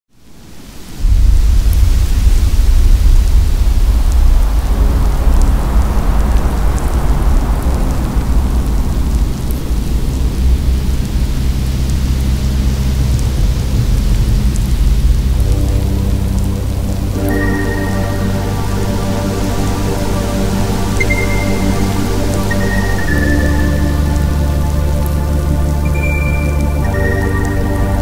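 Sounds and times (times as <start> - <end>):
rain-like hiss: 0.1 - 28.0
heavy low rumble: 0.8 - 28.0
steady low drone note: 1.0 - 28.0.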